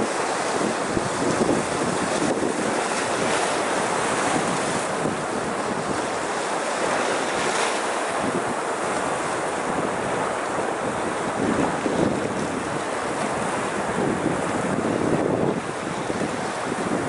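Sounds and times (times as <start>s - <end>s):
waves breaking on rocks: 0.0s - 17.0s
wind buffeting microphone: 0.0s - 17.0s.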